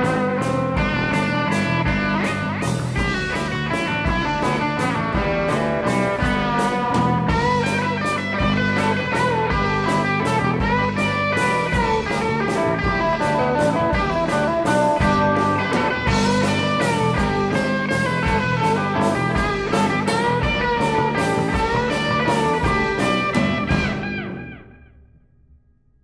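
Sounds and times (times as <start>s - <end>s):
drum beat: 0.0s - 24.4s
electric guitar lead: 0.0s - 25.3s
electric bass: 0.0s - 25.7s.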